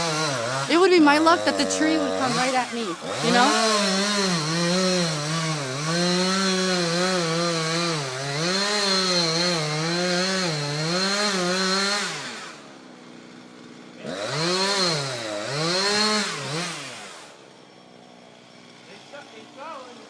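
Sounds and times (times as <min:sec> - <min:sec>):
chainsaw cutting into tree: 0:00.0 - 0:20.0.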